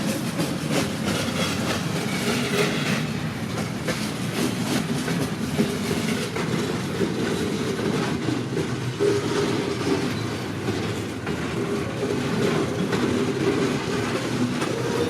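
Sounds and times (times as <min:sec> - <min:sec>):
continuous rail noise: 0:00.0 - 0:15.0
train wheels clicking over rail joints: 0:00.0 - 0:15.0.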